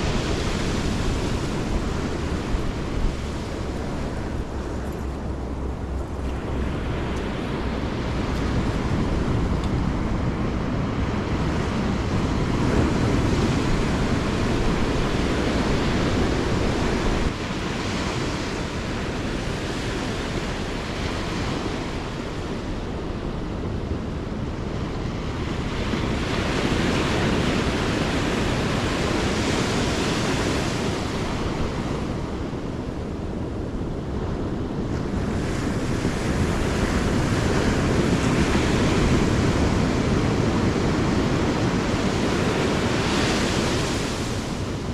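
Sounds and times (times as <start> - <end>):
ocean surf breaking: 0.0 - 44.9
wind rumbling on microphone: 0.0 - 44.9.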